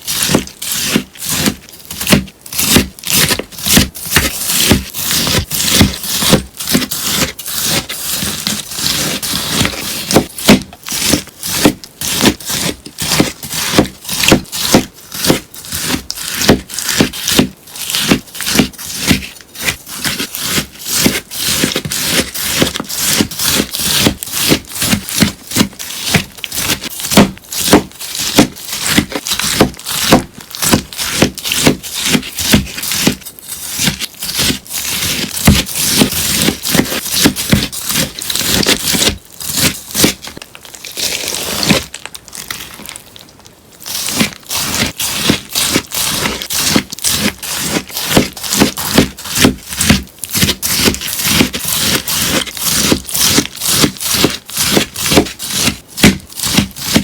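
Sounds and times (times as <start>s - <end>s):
scissors snipping sponge: 0.0s - 42.7s, 43.8s - 57.0s.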